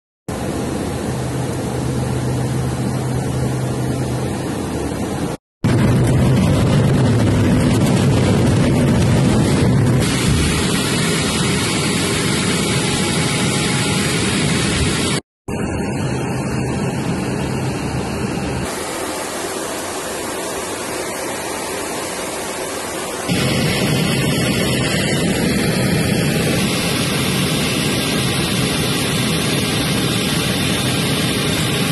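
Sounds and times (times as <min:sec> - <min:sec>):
aircraft engine and airflow rush: 0:00.3 - 0:31.9.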